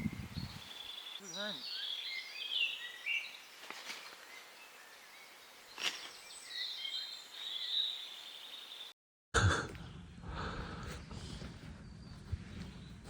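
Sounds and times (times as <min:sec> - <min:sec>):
birds singing: 0:00.0 - 0:08.9, 0:09.8 - 0:13.0.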